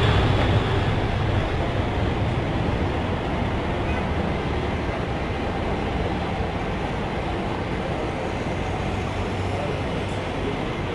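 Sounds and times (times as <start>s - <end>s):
distant jet engines roaring: 0.0s - 10.9s
road traffic: 0.0s - 10.9s.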